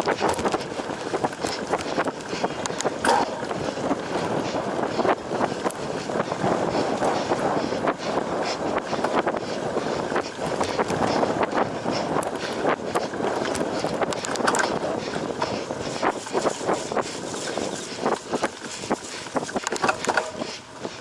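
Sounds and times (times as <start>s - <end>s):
bike rattling and clattering: 0.0s - 21.0s
bike tyres rumbling: 0.0s - 21.0s
wind buffeting microphone: 0.0s - 21.0s.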